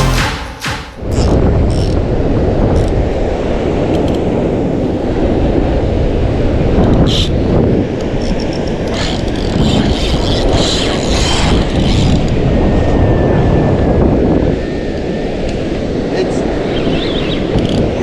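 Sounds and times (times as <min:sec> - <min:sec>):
wind buffeting the microphone: 0:01.0 - 0:18.0.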